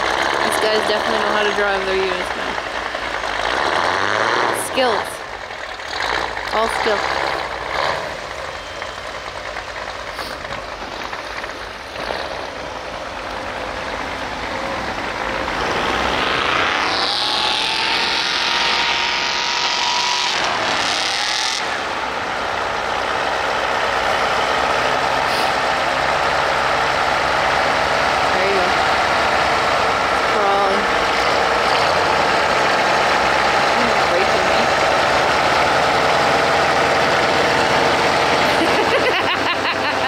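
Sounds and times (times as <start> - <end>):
off-road vehicle engine running: 0.0 - 40.0.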